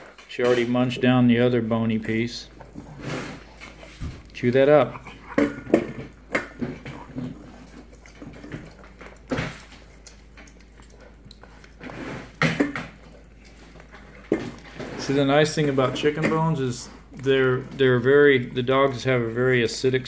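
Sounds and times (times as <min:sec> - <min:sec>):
dog crunching a bone: 0:00.0 - 0:19.3.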